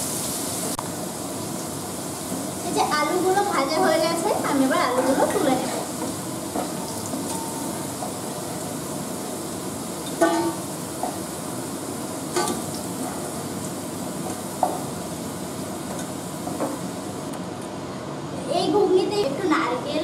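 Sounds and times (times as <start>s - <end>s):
potatoes sizzling in hot oil: 0.0s - 17.3s.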